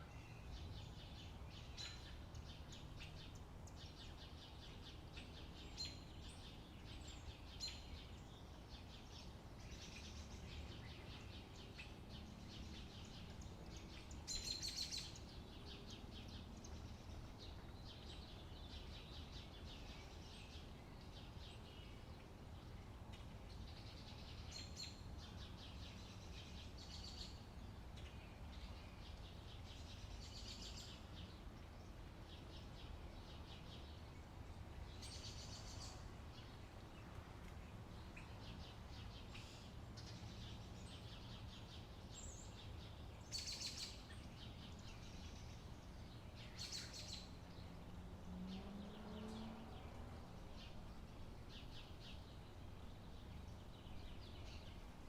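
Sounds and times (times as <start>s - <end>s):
low outdoor rumble: 0.1s - 55.0s.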